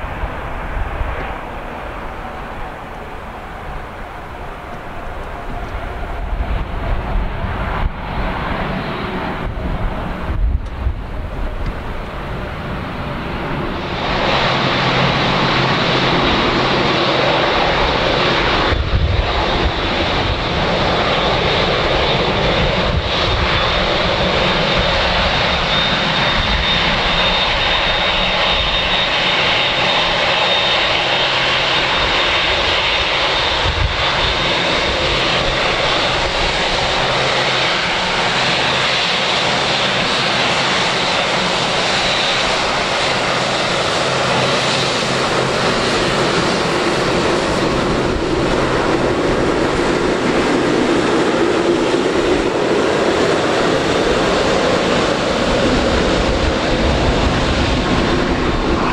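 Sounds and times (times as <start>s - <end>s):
jet engines rushing and whining: 0.0s - 58.9s.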